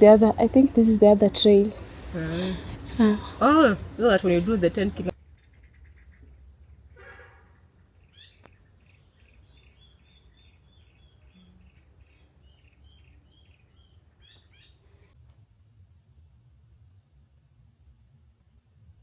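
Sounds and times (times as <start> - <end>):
low steady rumble: 0.0 - 19.0
faint birdsong: 1.3 - 3.5, 4.2 - 19.0.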